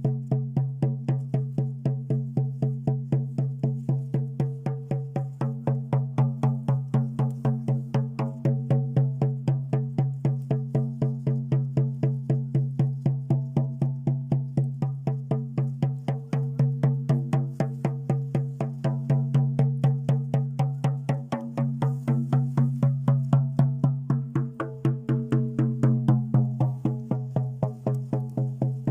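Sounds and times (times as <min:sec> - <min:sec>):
drum beaten in steady rhythm: 0:00.0 - 0:28.9.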